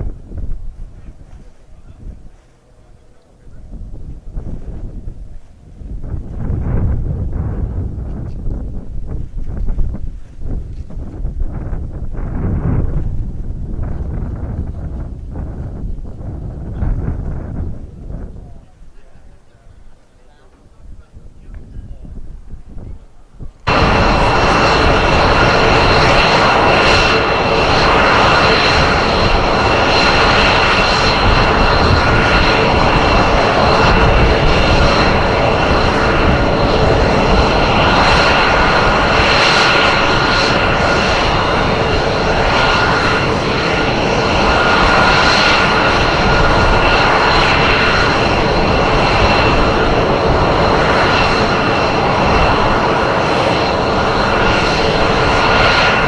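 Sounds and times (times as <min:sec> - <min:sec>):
aircraft engine noise: 0:00.0 - 0:56.0
constant whine: 0:00.0 - 0:56.0.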